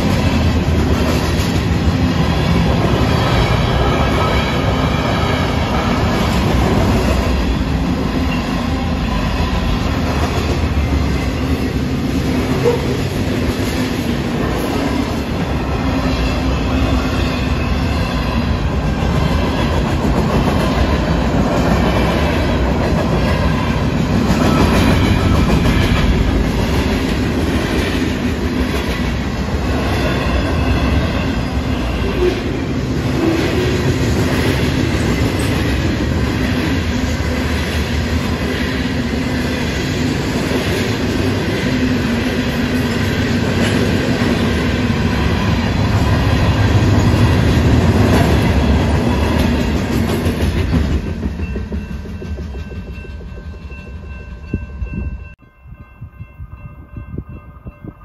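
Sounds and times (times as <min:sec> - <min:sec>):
freight train wheels rolling on track: 0:00.0 - 0:58.0.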